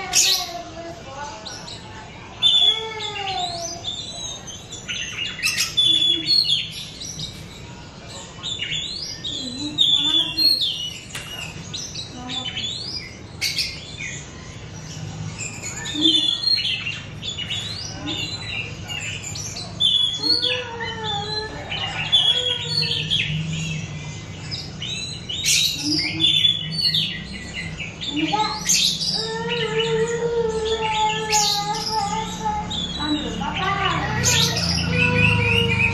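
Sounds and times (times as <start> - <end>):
young bird chirping and twittering: 0.0 - 35.9.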